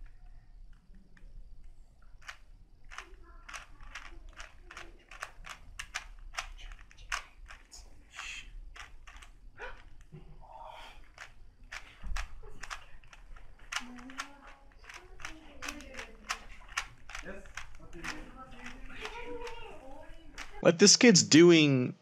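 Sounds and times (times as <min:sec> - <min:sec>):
puzzle cube plastic layers clicking: 0:00.0 - 0:10.1, 0:11.0 - 0:20.6.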